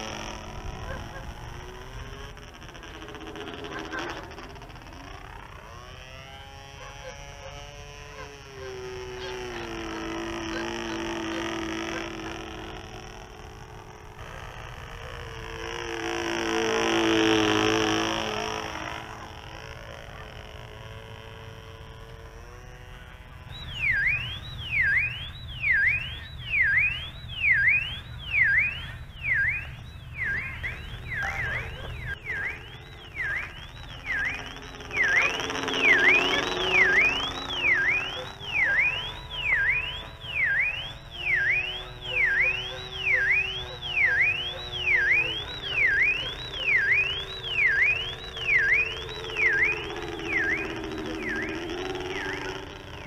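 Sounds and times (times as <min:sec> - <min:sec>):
car alarm warbling: 0:00.0 - 0:53.0
model airplane engine buzzing: 0:00.0 - 0:53.0.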